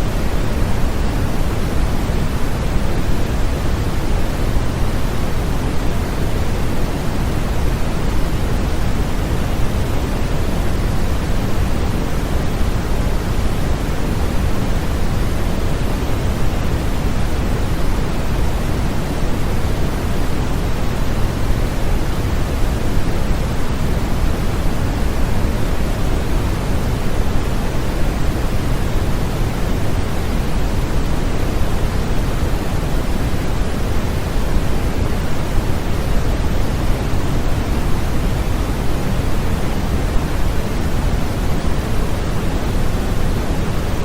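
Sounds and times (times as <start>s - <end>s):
deep white noise: 0.0s - 44.0s.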